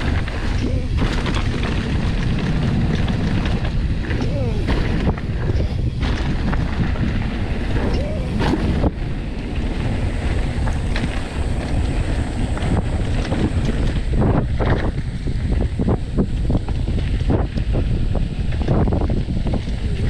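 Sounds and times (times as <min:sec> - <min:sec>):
bike knocks and rattles: 0:00.0 - 0:20.0
wind buffeting microphone: 0:00.0 - 0:20.0.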